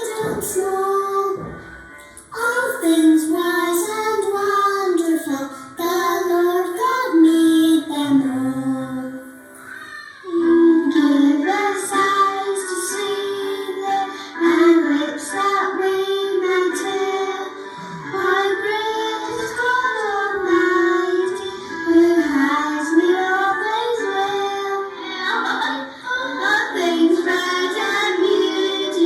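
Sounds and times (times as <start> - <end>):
children singing: 0.0 - 29.0.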